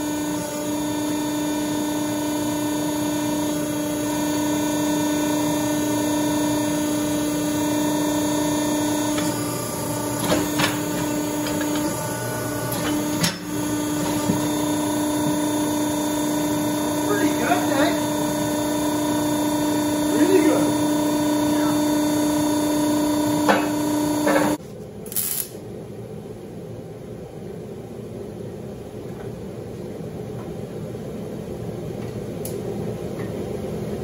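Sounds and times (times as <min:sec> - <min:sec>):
machinery electric hum: 0:00.0 - 0:34.0.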